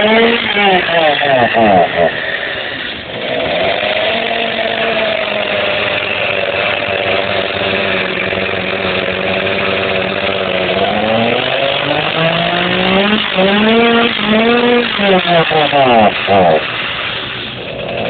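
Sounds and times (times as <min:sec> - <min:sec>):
chainsaw cutting: 0:00.0 - 0:18.0.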